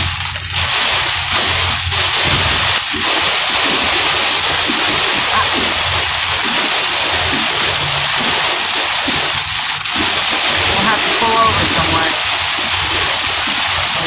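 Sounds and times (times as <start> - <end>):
heavy rain on a car: 0.0 - 14.0.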